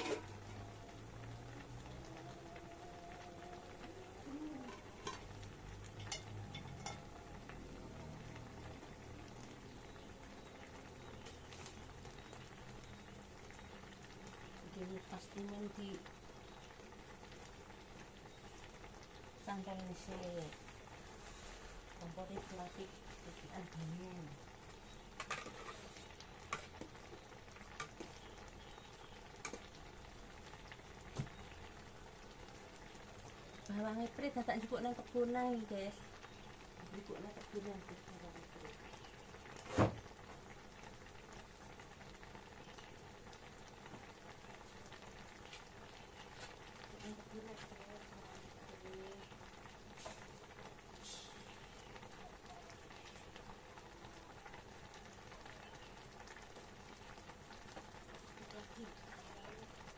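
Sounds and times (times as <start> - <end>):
soup boiling and bubbling: 0.0 - 59.9.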